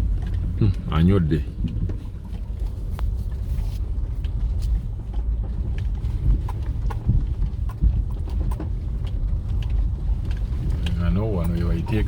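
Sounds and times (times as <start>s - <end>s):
vehicle rumbling on rough road: 0.0s - 12.0s.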